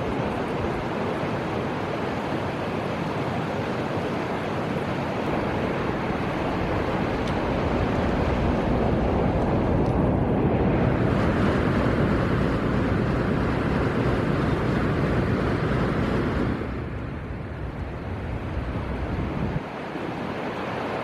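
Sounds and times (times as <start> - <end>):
river water rushing: 0.0 - 10.1, 12.9 - 21.0.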